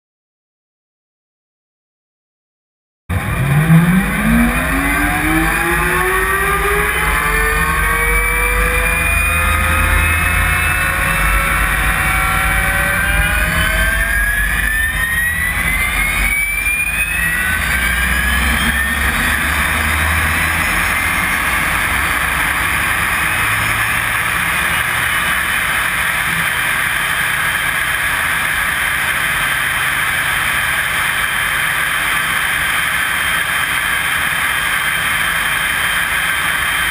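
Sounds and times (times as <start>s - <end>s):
turbine engine spooling up: 3.1s - 36.9s.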